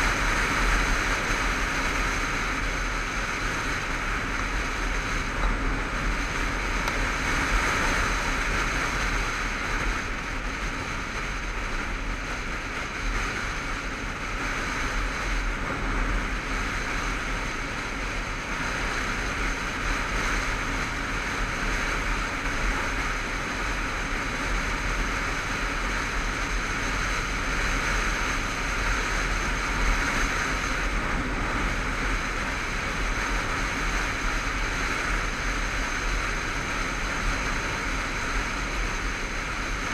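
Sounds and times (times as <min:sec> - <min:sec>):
motorcycle engine running: 0:00.0 - 0:39.9
wind roar over a helmet: 0:00.0 - 0:39.9.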